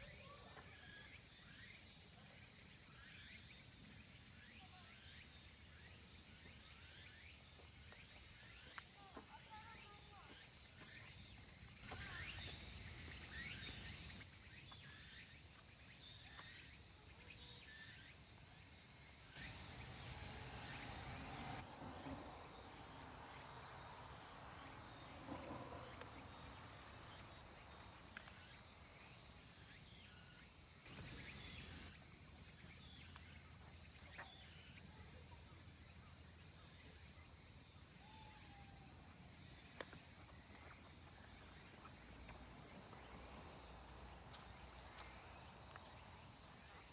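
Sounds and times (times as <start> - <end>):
high-pitched insect trilling: 0.0 - 46.9.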